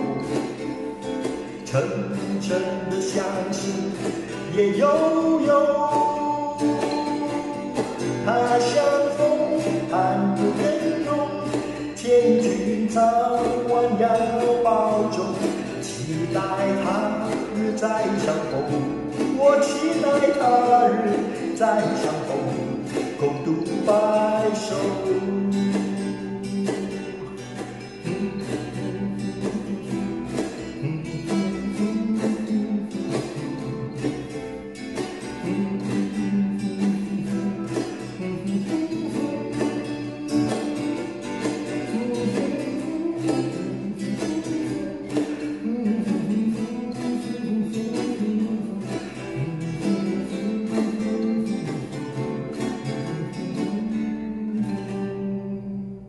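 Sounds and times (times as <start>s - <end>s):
acoustic guitar plucked notes: 0.0s - 56.0s.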